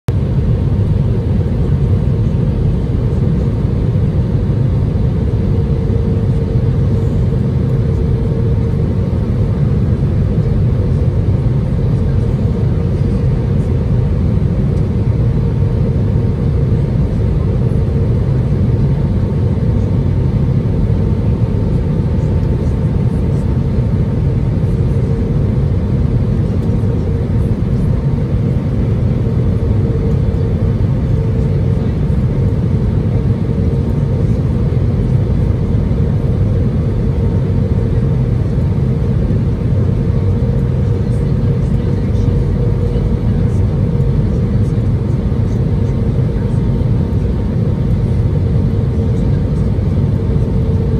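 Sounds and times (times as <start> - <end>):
airplane cabin rumble: 0.1 - 50.9.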